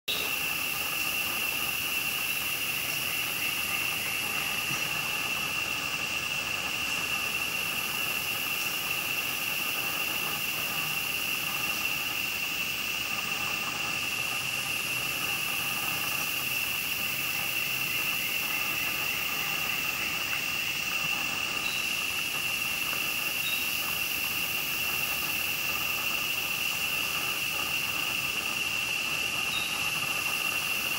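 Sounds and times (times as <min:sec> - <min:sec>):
constant hiss: 0:00.1 - 0:30.9
high-pitched insect drone: 0:00.1 - 0:30.9.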